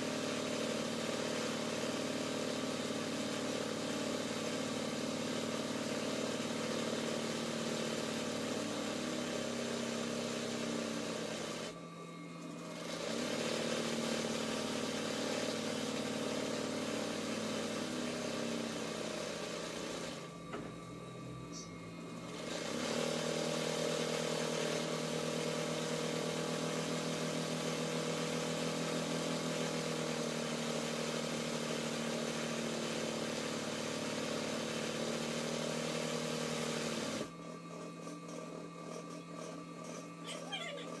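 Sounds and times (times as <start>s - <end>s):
sewing machine running: 0.0s - 11.8s, 12.4s - 20.3s, 22.2s - 37.3s.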